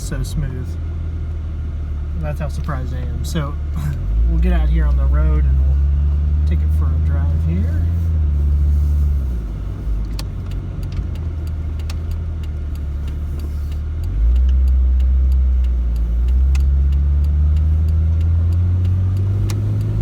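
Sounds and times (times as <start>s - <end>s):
engine and road drone in cabin: 0.0s - 20.0s.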